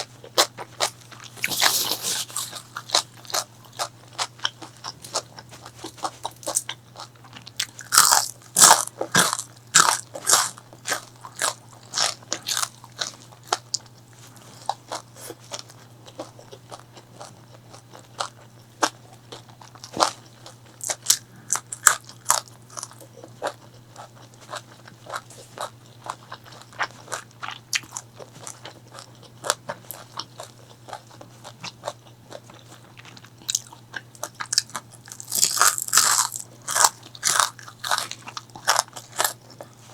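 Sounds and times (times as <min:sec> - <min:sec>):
crunchy chewing of fried chicken: 0:00.0 - 0:39.9.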